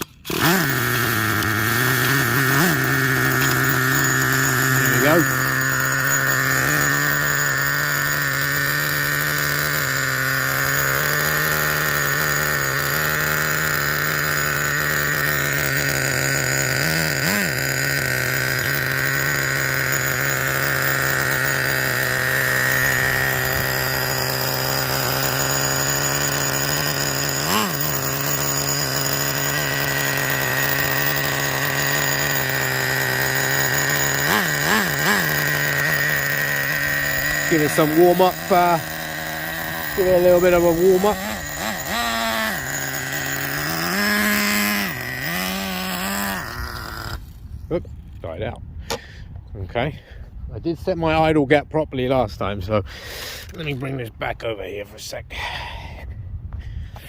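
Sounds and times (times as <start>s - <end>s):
model truck engine idling: 0.0s - 47.7s
engine throttle blips: 0.0s - 48.2s.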